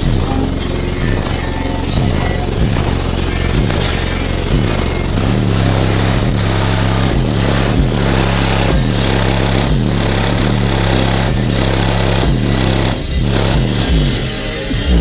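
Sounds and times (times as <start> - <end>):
bass-heavy music from car audio: 0.0 - 15.0.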